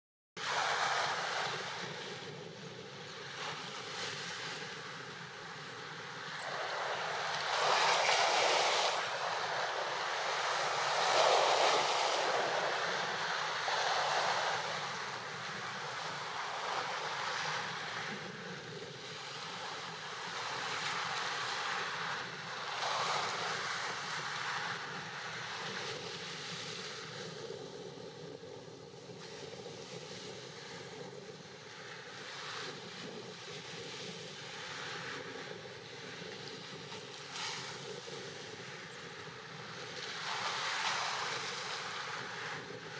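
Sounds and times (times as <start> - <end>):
sea waves breaking over rocks: 0.4 - 27.4, 29.1 - 42.9.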